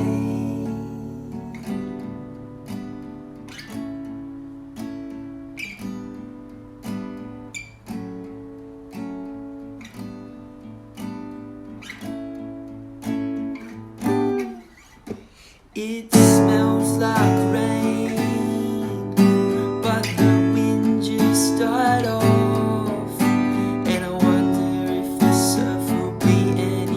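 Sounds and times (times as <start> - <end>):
acoustic guitar strumming chords: 0.0 - 26.9.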